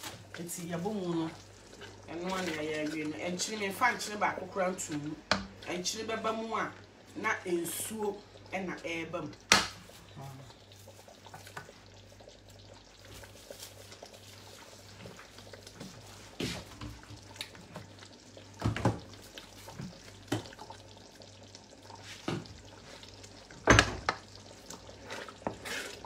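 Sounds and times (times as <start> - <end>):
faint sizzle in pot: 0.0 - 26.0.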